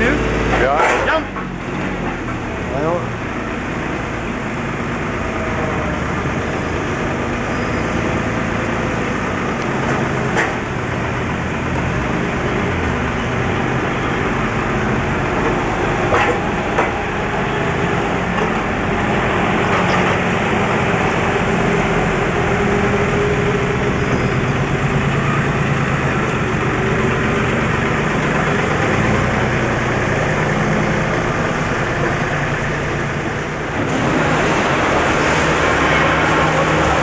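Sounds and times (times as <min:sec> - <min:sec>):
forklift engine running: 0:00.0 - 0:37.0.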